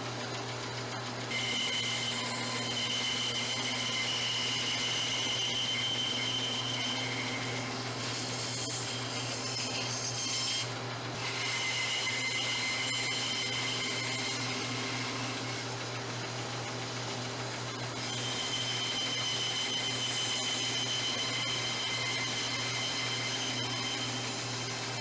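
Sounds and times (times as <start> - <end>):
band saw cutting wood: 1.3 - 25.0.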